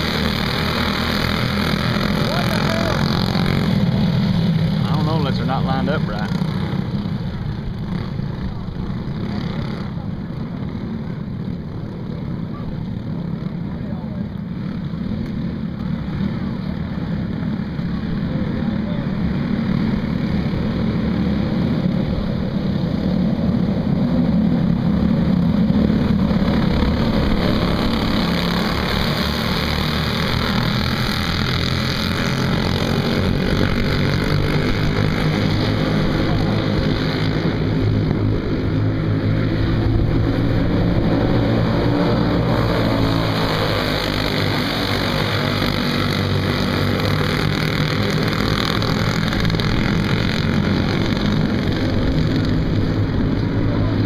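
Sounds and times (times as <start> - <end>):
go-kart engines racing: 0.0 - 54.0.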